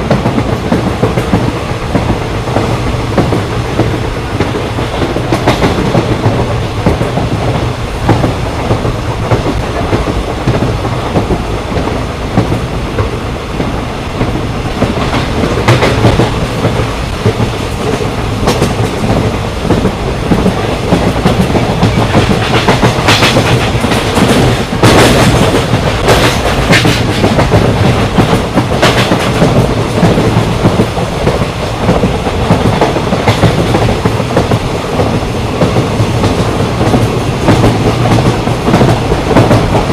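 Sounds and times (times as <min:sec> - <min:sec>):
train wheels rumbling and clacking: 0:00.0 - 0:39.9.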